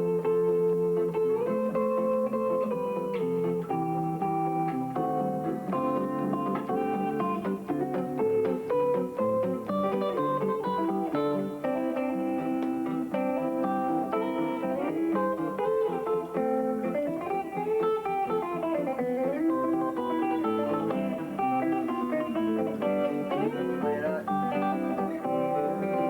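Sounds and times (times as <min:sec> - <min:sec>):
fingerstyle blues guitar: 0:00.0 - 0:26.0.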